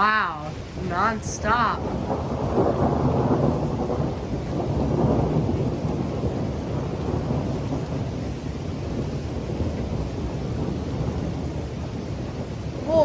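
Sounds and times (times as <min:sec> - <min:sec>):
rolling thunder rumbling: 0:00.0 - 0:13.0
steady rain: 0:00.0 - 0:13.0.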